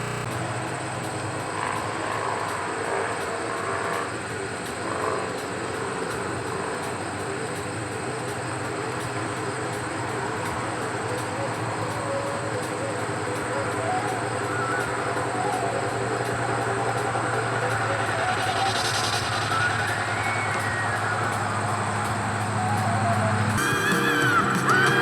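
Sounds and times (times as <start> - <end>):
drone motors humming: 0.0 - 25.0.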